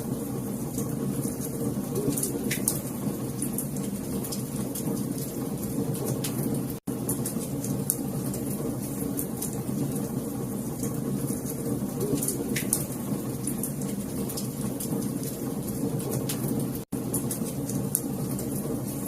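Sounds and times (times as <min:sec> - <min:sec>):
wood fire crackling: 0:00.1 - 0:19.0.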